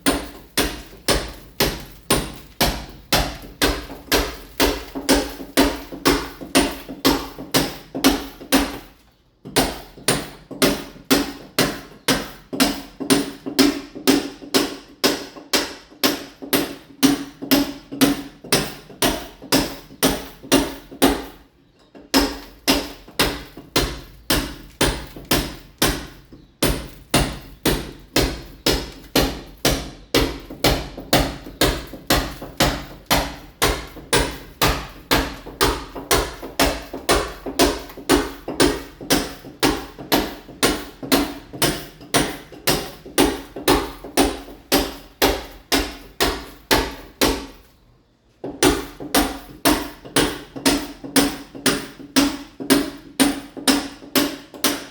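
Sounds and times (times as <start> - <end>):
hammer striking masonry wall: 0.0 - 54.9.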